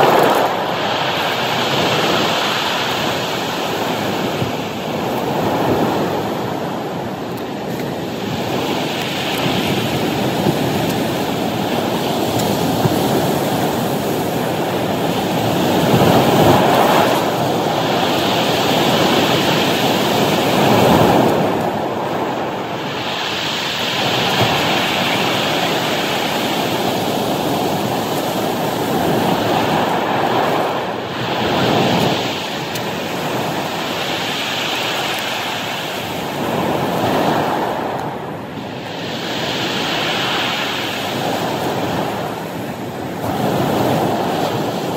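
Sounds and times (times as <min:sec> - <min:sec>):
surf washing over cobble beach: 0:00.0 - 0:44.9.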